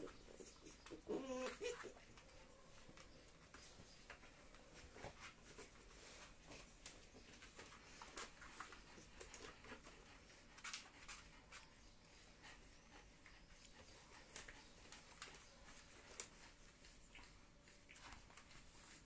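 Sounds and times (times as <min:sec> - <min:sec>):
puppy paws tapping on floor: 0:00.0 - 0:11.8, 0:13.6 - 0:19.0.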